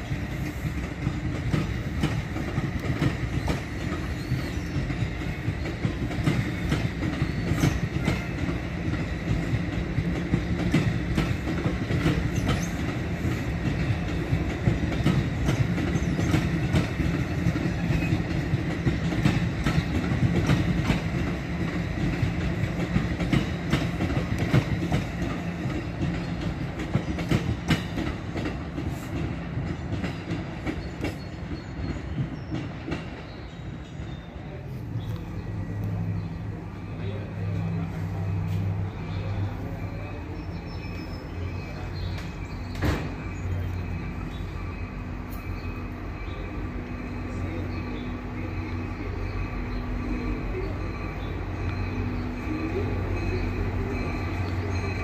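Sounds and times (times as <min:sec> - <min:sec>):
wheels clicking over rail joints: 0:00.0 - 0:48.8
train coaches rolling past: 0:00.0 - 0:55.0.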